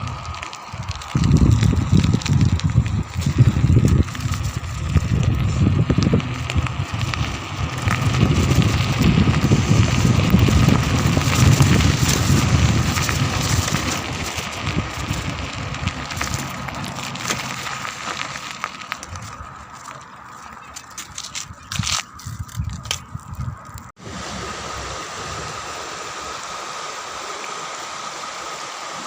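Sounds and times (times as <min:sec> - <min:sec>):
crackly rustling: 0:00.0 - 0:24.0
wind buffeting microphone: 0:00.0 - 0:26.3.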